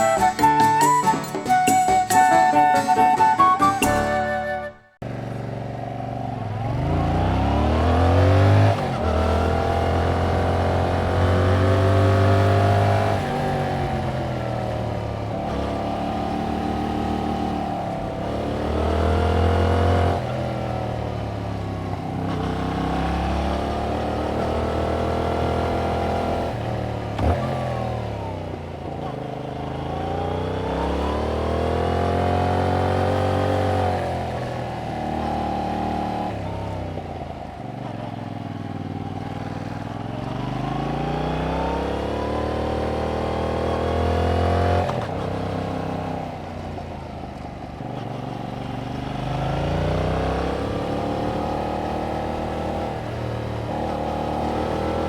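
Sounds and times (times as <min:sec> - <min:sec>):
motorcycle engine pulling under throttle: 0:05.0 - 0:55.0.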